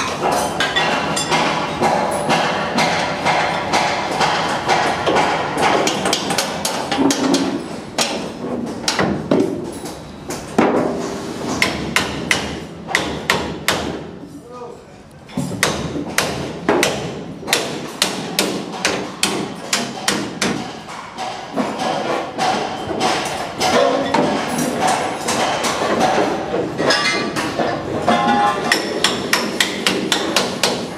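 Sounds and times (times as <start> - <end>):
hammer knocking on metal panels: 0.0 - 9.6, 11.5 - 14.1, 15.4 - 30.9.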